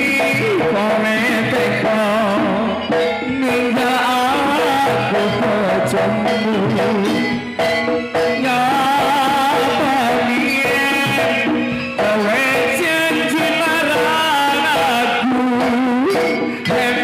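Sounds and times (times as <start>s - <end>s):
drums beating: 0.0s - 17.0s
person singing wavering: 0.0s - 17.0s.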